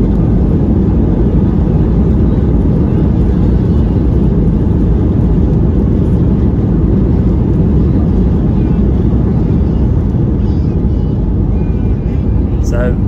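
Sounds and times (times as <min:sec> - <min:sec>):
airplane cabin rumble on runway: 0:00.0 - 0:13.0.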